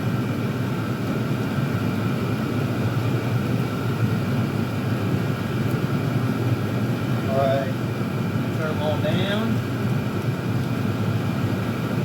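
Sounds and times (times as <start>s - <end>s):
diesel air heaters humming: 0.0s - 12.0s.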